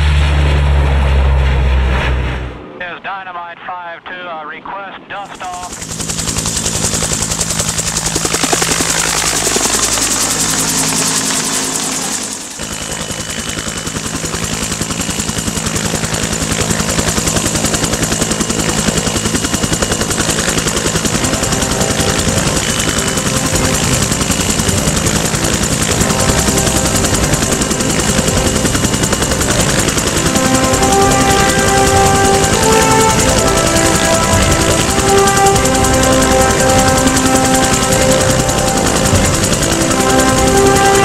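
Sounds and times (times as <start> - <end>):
steady high whine: 2.4 - 41.0
helicopter rotor beating: 2.8 - 41.0.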